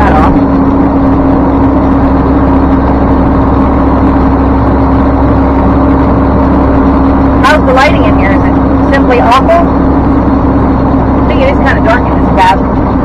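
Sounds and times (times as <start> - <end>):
diesel truck engine droning: 0.0 - 13.0.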